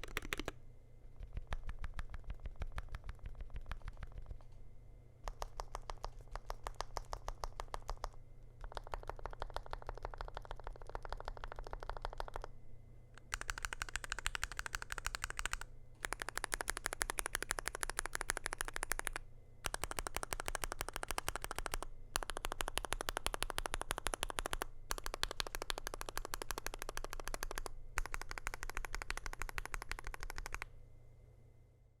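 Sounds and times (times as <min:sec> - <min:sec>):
fast typing on mechanical keyboard: 0:00.0 - 0:00.5, 0:01.2 - 0:04.6, 0:05.2 - 0:12.5, 0:13.2 - 0:30.7.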